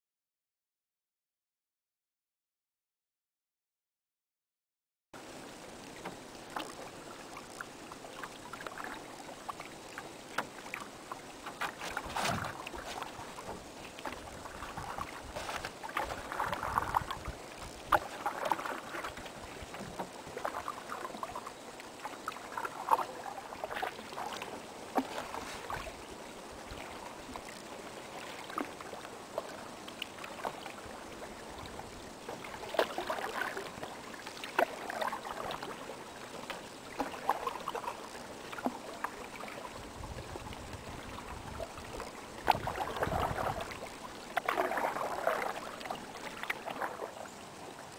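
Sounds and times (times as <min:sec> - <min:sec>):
paddles swishing and splashing: 0:06.0 - 0:47.9.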